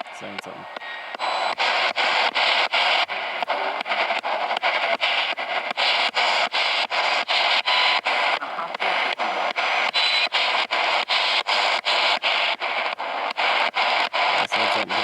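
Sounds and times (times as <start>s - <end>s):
radio static sweeping channels: 0.0s - 15.0s.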